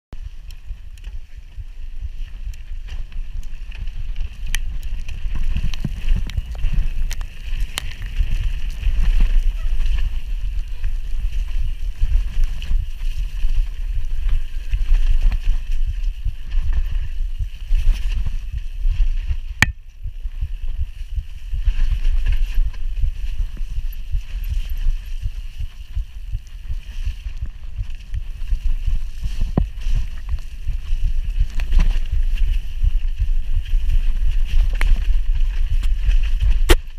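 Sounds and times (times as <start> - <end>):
wind rumble on microphone: 0.1 - 36.9.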